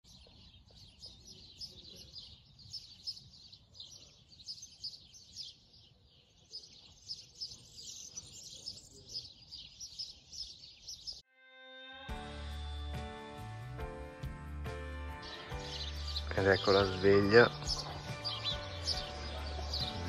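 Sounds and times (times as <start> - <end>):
small birds chirping: 0.0 - 11.2, 15.1 - 20.0.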